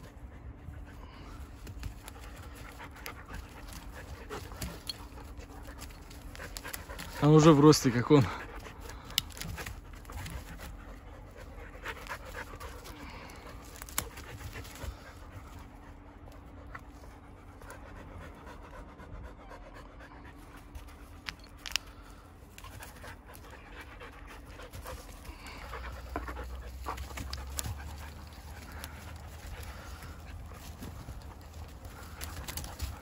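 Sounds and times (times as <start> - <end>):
dog panting: 0.0 - 33.0.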